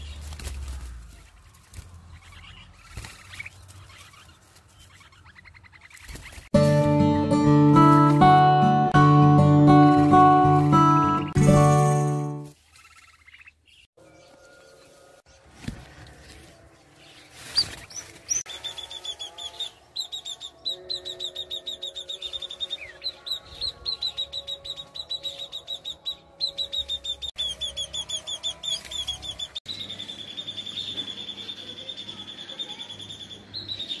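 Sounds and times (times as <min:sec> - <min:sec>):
small birds chirping: 0:00.0 - 0:06.6, 0:12.5 - 0:34.0.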